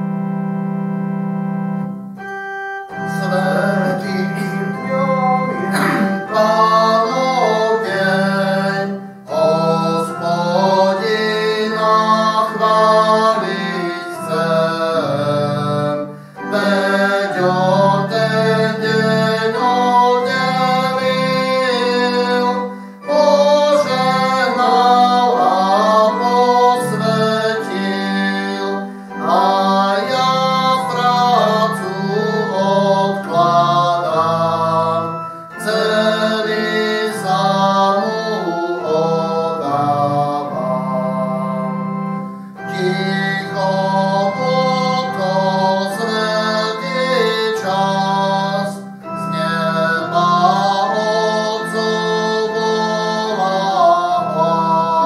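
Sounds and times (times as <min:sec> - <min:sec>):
keyboard organ accompaniment: 0:00.0 - 0:55.0
people singing a hymn: 0:03.0 - 0:41.9, 0:42.6 - 0:55.0.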